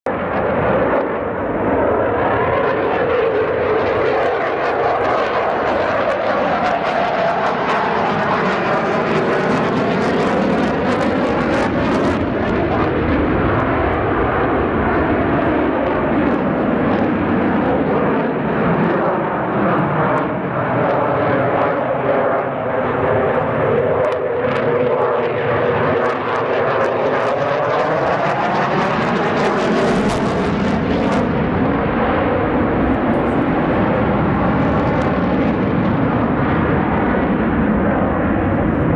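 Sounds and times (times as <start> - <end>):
fighter jet roar: 0.1 - 38.9.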